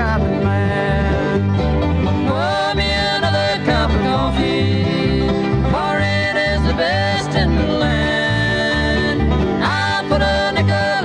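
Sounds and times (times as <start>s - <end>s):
acoustic guitar: 0.0s - 11.0s
bass line: 0.0s - 11.0s
mandolin: 0.0s - 11.0s.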